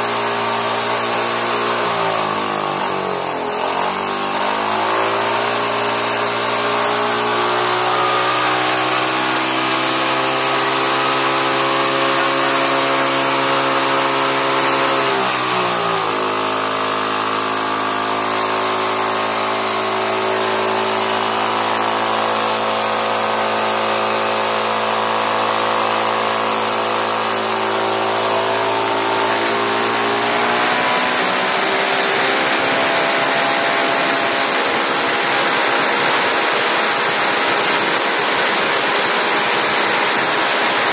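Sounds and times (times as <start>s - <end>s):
lawnmower engine running fast: 0.0s - 40.9s.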